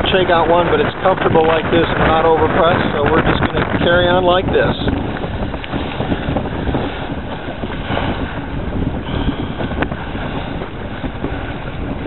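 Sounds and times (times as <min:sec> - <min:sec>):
choppy water splashing: 0:00.0 - 0:12.0
wind buffeting microphone: 0:00.0 - 0:12.0.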